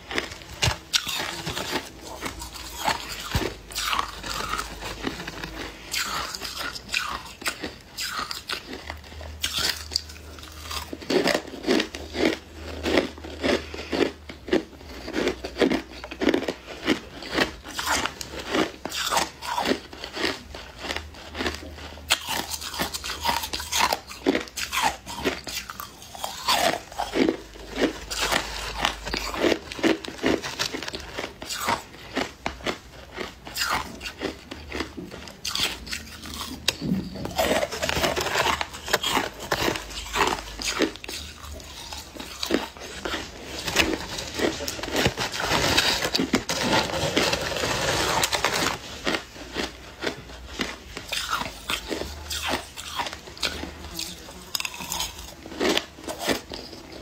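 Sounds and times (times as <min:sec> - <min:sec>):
ice being chewed crunching: 0:00.0 - 0:57.0.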